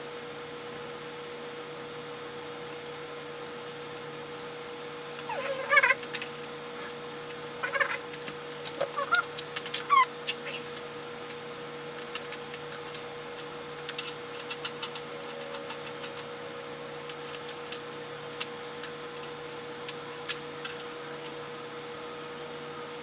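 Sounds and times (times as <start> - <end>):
electrical hum: 3.4 - 23.0.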